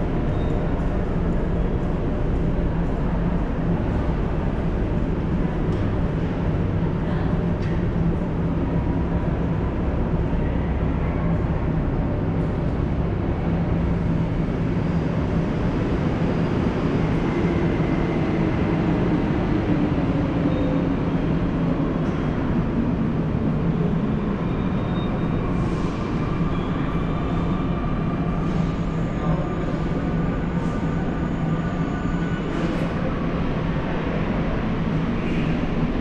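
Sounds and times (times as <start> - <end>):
low rumble of metro station: 0.0 - 36.0.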